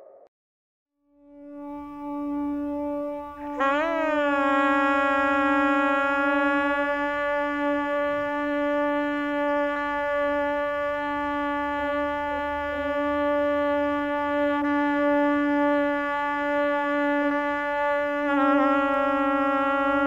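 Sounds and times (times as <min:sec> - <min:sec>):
conch shell blown: 0:01.1 - 0:20.0.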